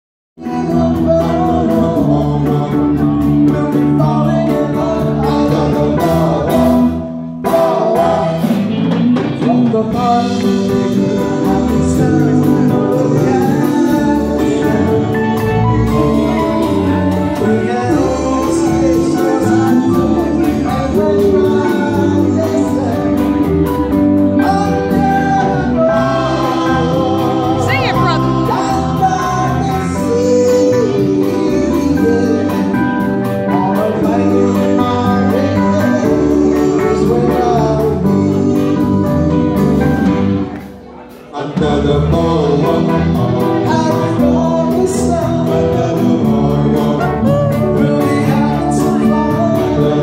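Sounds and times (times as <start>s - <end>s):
man singing into microphone: 0.4s - 40.2s, 41.2s - 50.0s
instrumental backing music: 0.4s - 50.0s.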